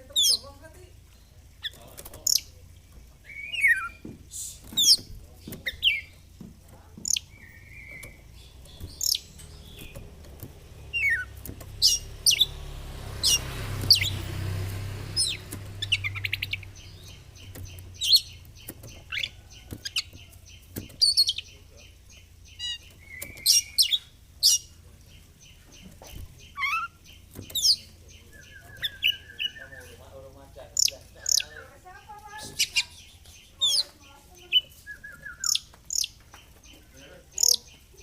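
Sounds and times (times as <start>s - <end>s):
magpie-robin singing varied song: 0.0s - 6.3s, 6.9s - 38.0s.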